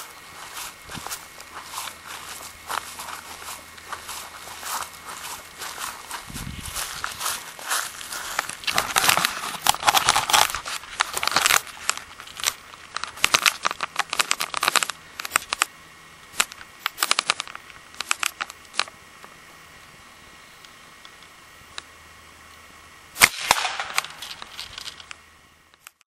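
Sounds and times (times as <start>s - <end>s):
handling noise rustling and clicks: 0.0s - 19.4s, 23.8s - 26.0s.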